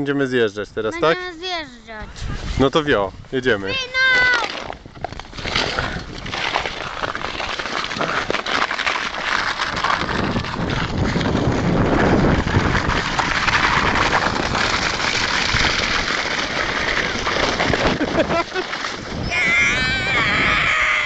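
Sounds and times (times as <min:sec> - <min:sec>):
wind buffeting microphone: 0:00.6 - 0:08.2, 0:09.3 - 0:21.0
sled runners sliding over snow: 0:01.0 - 0:21.0.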